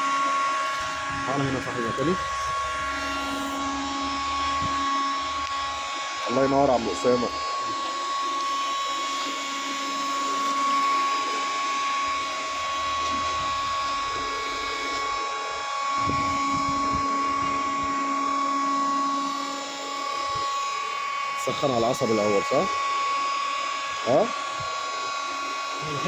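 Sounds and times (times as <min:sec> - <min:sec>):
heat gun whining: 0:00.0 - 0:26.0.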